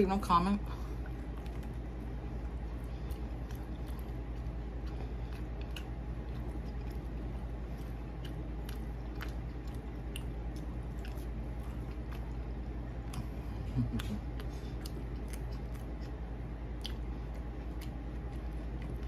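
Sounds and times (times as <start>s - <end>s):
steady low hum: 0.0s - 19.0s
person chewing pizza: 0.7s - 19.0s.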